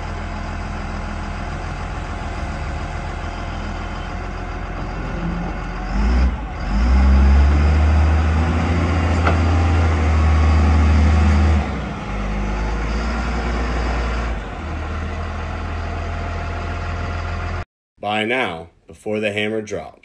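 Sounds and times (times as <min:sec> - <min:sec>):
wheel loader diesel engine: 0:00.0 - 0:17.6.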